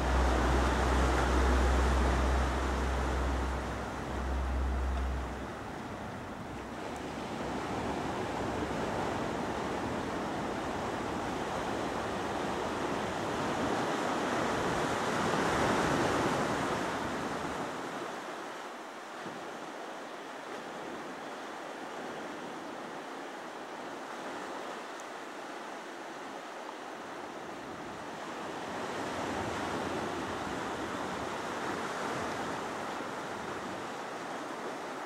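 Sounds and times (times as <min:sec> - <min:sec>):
ocean waves breaking: 0:00.0 - 0:35.0.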